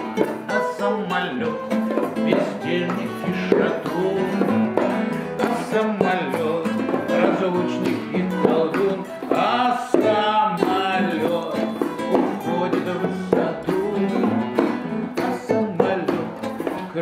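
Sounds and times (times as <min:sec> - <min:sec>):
classical guitar strummed and plucked: 0:00.0 - 0:17.0
man singing: 0:00.0 - 0:17.0.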